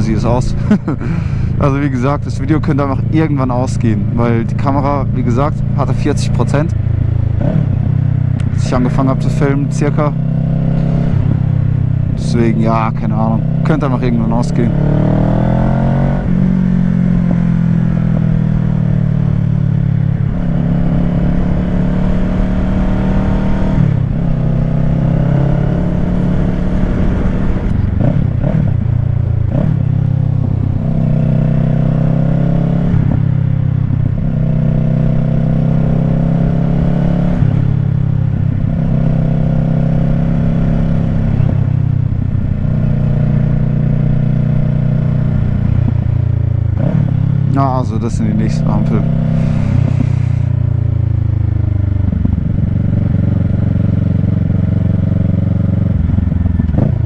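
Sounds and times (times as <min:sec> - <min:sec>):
motorcycle engine riding: 0:00.0 - 0:57.0.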